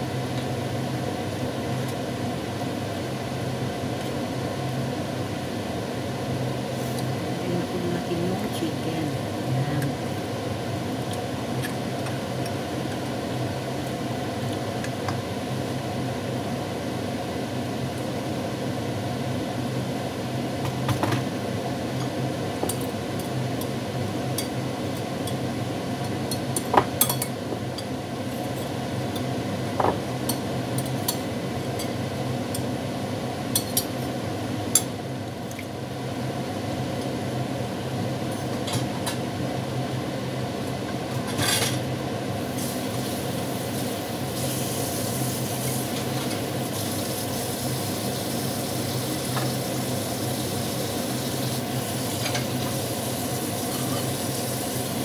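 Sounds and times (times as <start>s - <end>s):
low hum and hiss: 0.0s - 55.0s.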